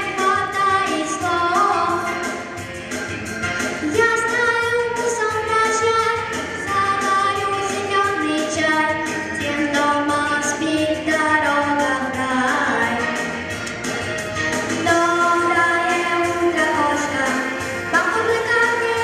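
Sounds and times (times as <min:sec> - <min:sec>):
woman singing: 0:00.0 - 0:02.2, 0:03.8 - 0:13.2, 0:14.8 - 0:19.0
backing track with steady beat: 0:00.0 - 0:19.0.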